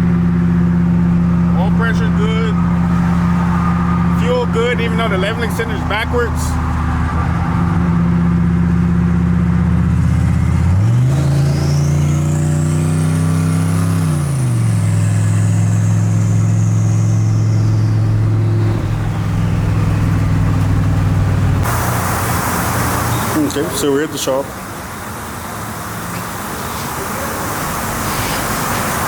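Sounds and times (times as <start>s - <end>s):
truck engine while driving: 0.0s - 29.0s.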